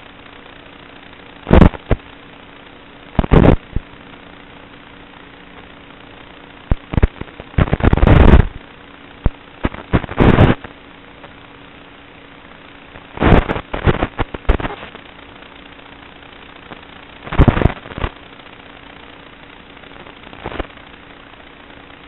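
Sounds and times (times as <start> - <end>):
faint motor hum: 0.0 - 22.0
loud crackling bursts: 0.0 - 22.0
steady hiss: 0.0 - 22.0.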